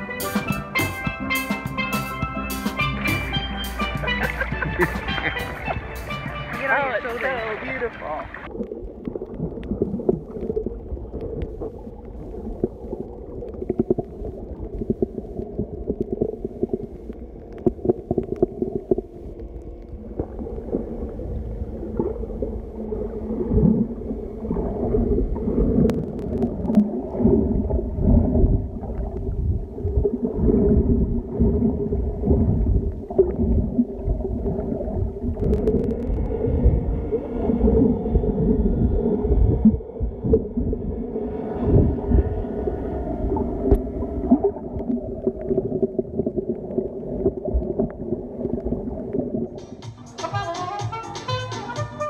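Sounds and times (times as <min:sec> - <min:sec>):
underwater rumble and gurgle: 0:01.2 - 0:49.8
faint steady hum: 0:06.6 - 0:49.5.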